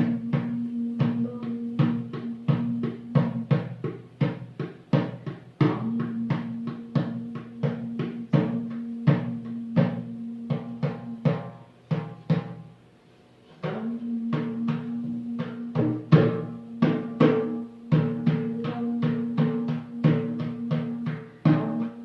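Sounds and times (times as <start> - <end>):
sustained drone note: 0.0 - 3.6, 5.7 - 11.4, 13.7 - 22.0
drumbeats: 0.0 - 12.8, 13.6 - 22.0.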